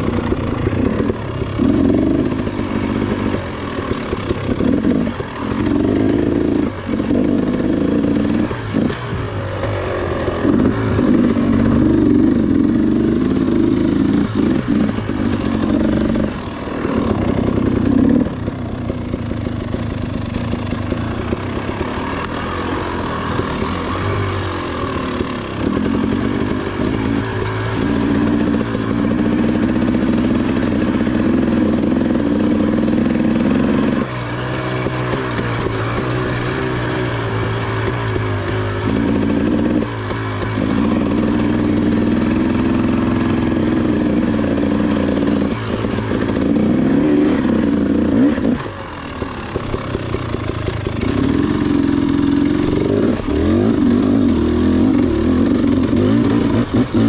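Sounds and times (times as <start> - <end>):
two-stroke engine lugging: 0.0 - 57.0.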